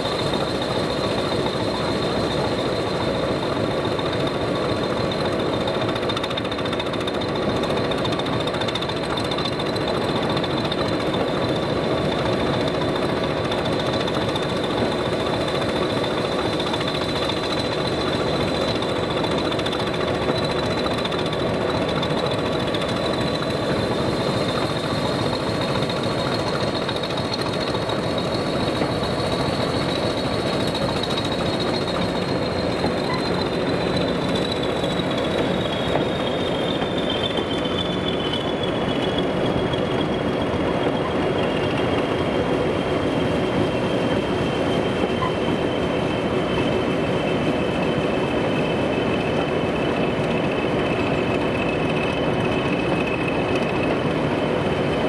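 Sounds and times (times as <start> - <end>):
diesel locomotive engine knocking: 0.0 - 55.0.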